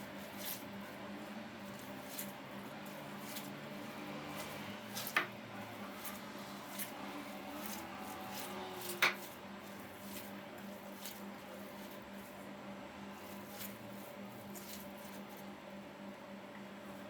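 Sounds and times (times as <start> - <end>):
hands squishing minced meat: 0.0 - 15.5.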